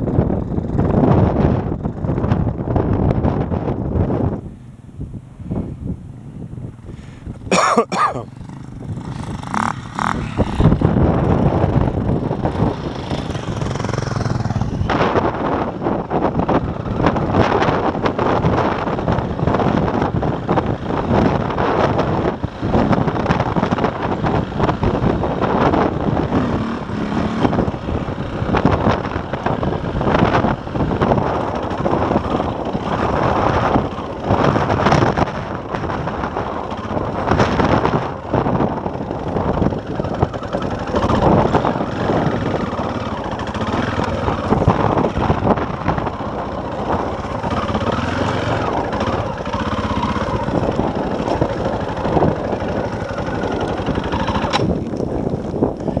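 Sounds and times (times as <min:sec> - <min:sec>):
motorcycle engine revving under load: 0:04.0 - 0:56.0.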